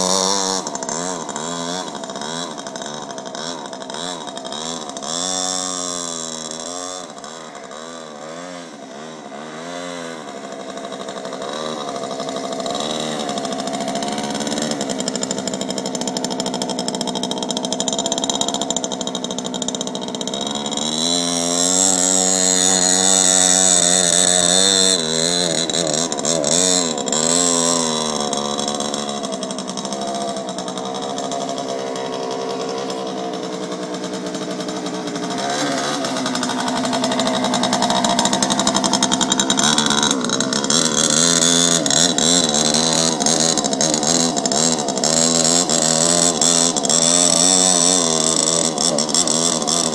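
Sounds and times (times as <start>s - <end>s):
small motorbike engine revving: 0.0s - 49.9s.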